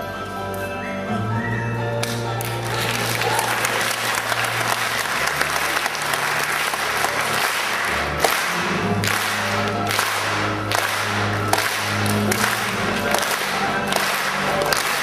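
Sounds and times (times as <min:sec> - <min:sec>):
background music: 0:00.0 - 0:15.0
audience applauding: 0:02.0 - 0:15.0.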